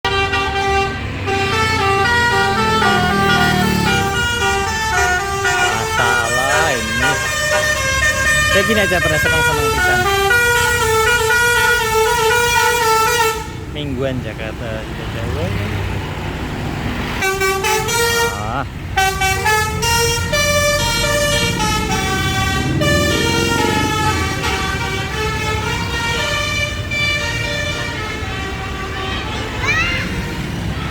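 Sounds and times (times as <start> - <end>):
bus horn playing a quick tune: 0.0 - 13.6, 17.2 - 30.6.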